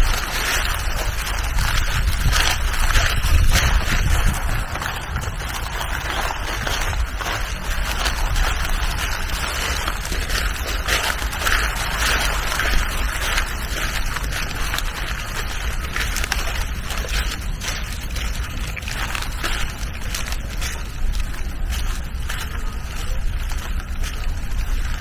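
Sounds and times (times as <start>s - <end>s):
steady outdoor hiss: 0.0s - 25.0s
wind rumbling on microphone: 0.0s - 25.0s.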